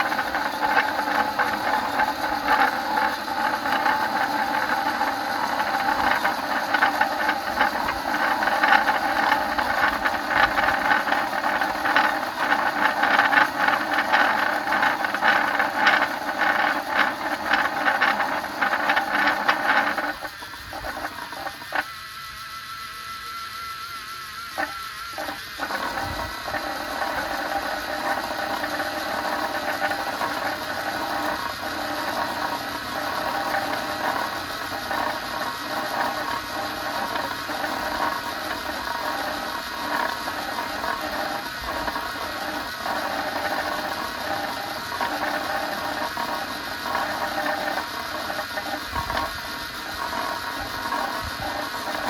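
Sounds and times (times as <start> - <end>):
toy gear motors whirring: 0.0 - 52.0.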